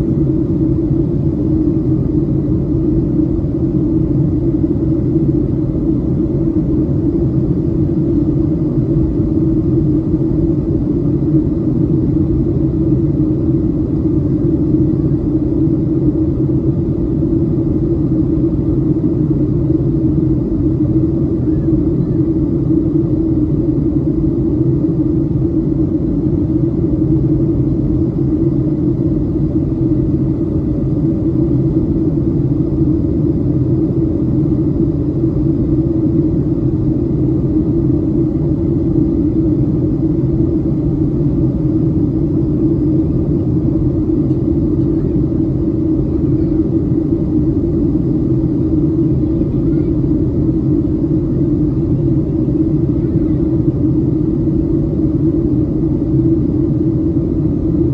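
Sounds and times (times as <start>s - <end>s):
airplane cabin rumble: 0.0s - 57.9s.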